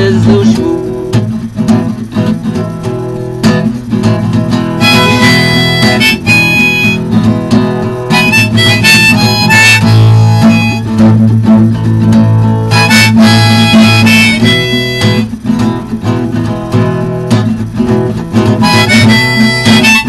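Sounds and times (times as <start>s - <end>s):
harmonica melody: 0.0s - 20.0s
strummed acoustic guitar: 0.0s - 20.0s.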